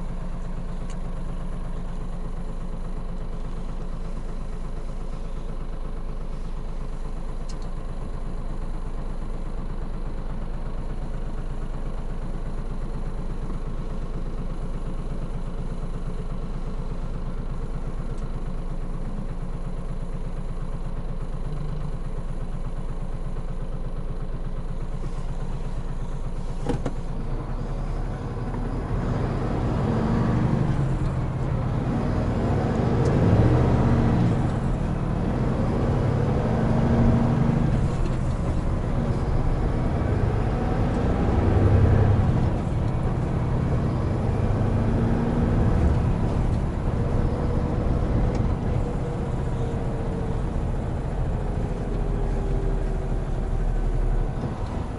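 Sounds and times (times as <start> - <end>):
truck diesel engine: 0.0 - 54.9.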